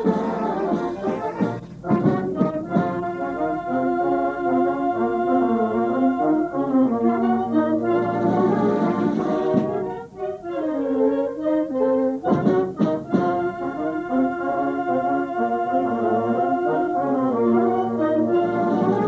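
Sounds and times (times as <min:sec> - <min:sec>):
wind band playing chords: 0:00.0 - 0:19.0.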